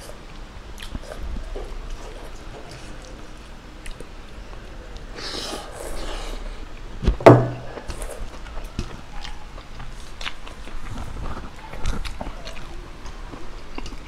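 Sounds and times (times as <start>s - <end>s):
man chewing: 0.0s - 6.9s, 7.7s - 14.0s.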